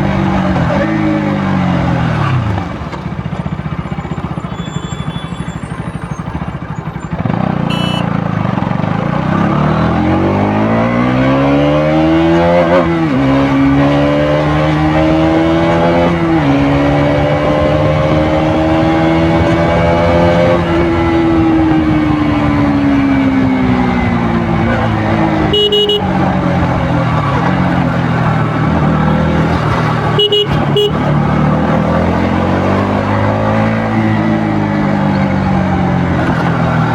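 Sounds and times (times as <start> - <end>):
motorcycle engine revving: 6.2 - 36.9.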